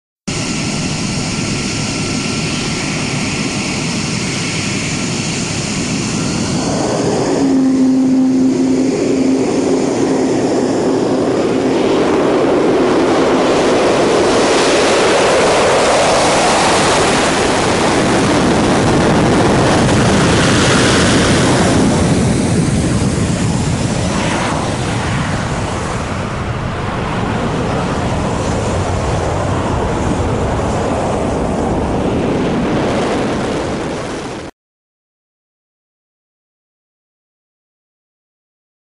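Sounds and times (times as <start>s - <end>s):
high jet whine: 0.3s - 34.5s
jet afterburner takeoff roar: 0.3s - 34.5s.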